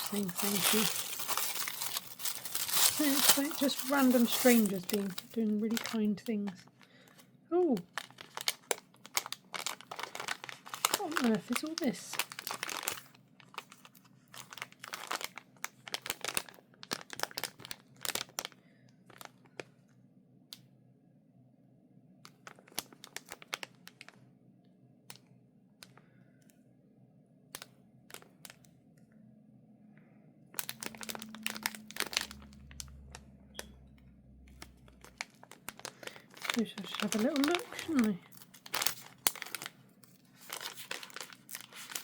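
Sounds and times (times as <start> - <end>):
packaging crinkling and rustling: 0.0 - 19.7, 22.3 - 24.2, 27.6 - 28.7, 30.5 - 42.0.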